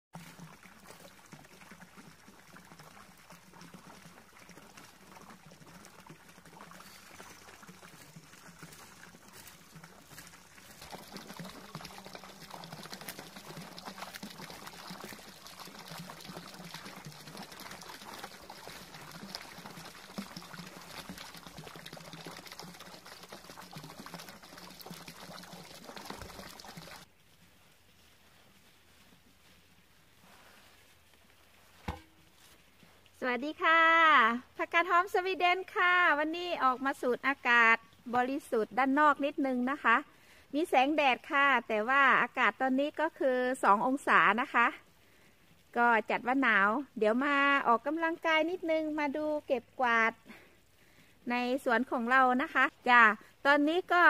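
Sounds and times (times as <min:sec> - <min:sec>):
fountain water splashing into pond: 0:00.2 - 0:27.1, 0:33.5 - 0:50.7, 0:51.5 - 0:54.0.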